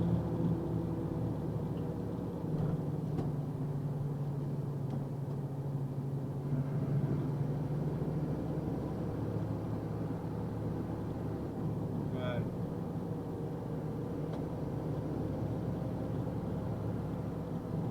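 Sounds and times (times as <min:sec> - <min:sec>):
truck engine and road noise: 0:00.0 - 0:17.9.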